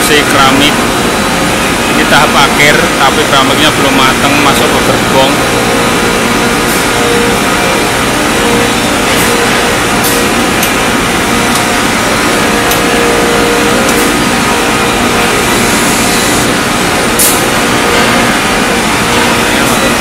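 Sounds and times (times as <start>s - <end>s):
roller conveyor running: 0.0s - 20.0s.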